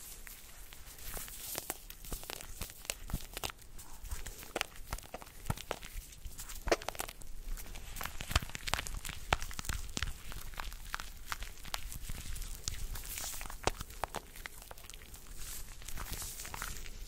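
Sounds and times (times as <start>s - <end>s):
soft rustling: 0.0s - 17.0s.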